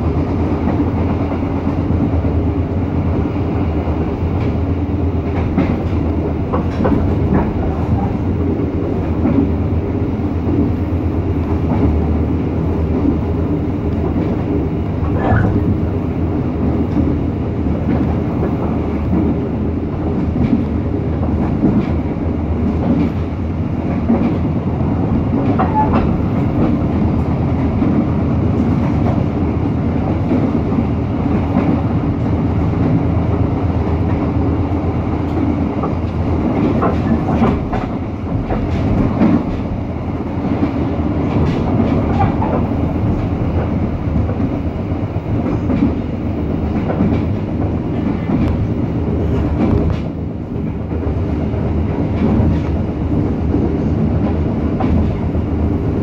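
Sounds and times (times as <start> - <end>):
clickety-clack over rail joints: 0.0 - 56.0
train wheels rumbling: 0.0 - 56.0.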